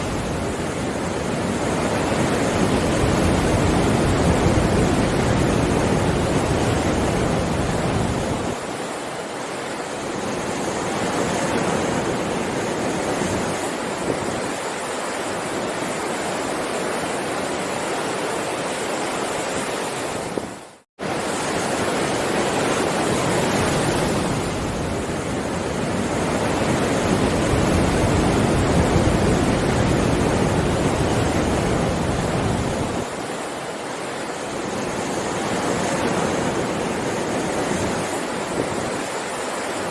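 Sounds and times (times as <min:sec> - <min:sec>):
heavy surf breaking waves: 0:00.0 - 0:39.9.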